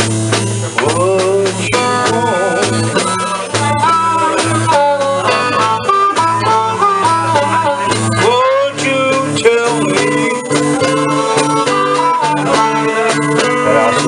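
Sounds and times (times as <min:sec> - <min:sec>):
guitar lead with bent notes: 0:00.0 - 0:14.0
repeating bass line: 0:00.0 - 0:14.0.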